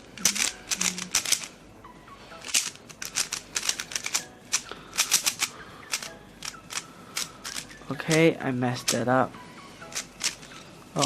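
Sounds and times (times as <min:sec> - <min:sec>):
puzzle cube clicking: 0:00.0 - 0:01.6, 0:02.4 - 0:09.1, 0:09.8 - 0:10.6.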